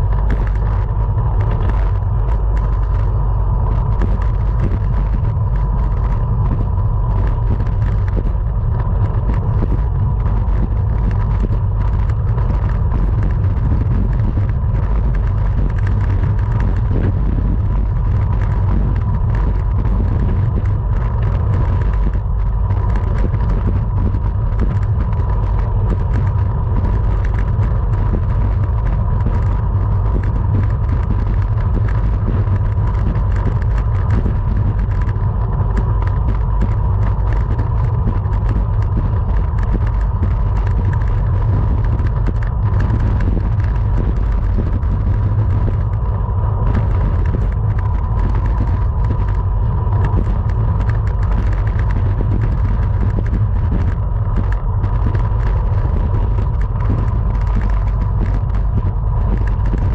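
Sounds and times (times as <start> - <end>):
wind rumble on microphone: 0.0 - 59.9
small clicks: 3.7 - 59.9.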